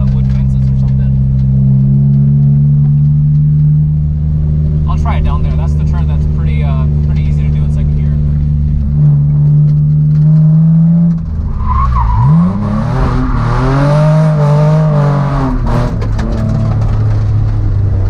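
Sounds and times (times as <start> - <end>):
car engine pulling in gear: 0.0 - 18.0.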